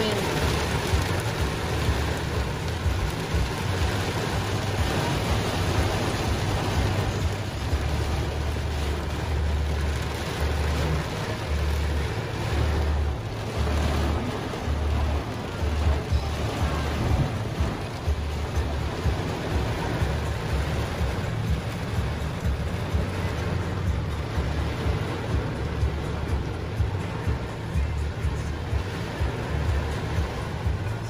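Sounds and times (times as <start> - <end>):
heavy rain on windshield: 0.0 - 31.0.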